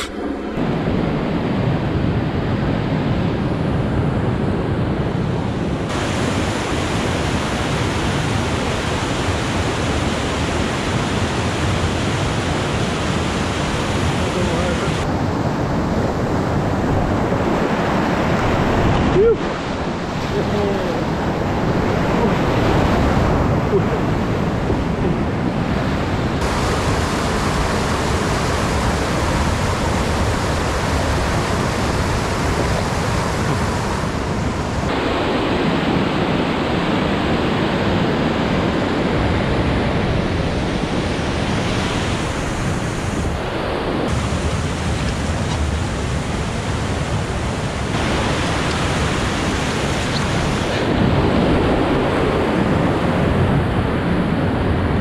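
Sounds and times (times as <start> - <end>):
water rushing over rocks: 5.9 - 15.1, 15.7 - 38.3, 40.2 - 52.8.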